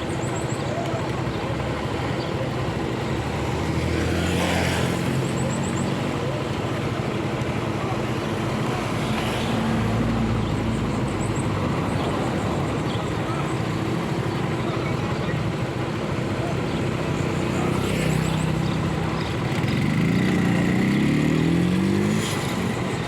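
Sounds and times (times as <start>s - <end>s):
motorcycle engine running: 0.0s - 23.0s
wind and road noise: 2.8s - 23.0s.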